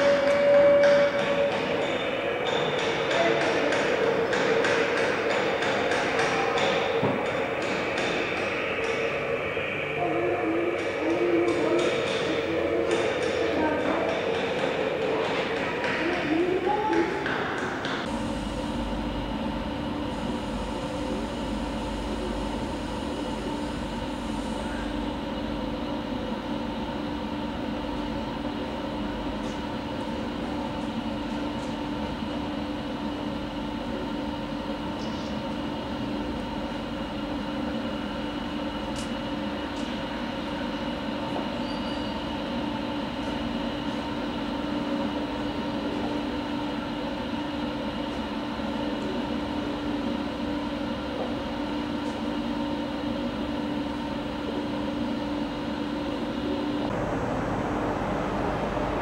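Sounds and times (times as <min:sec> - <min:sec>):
mechanical hum with held tones: 0:00.0 - 0:59.0.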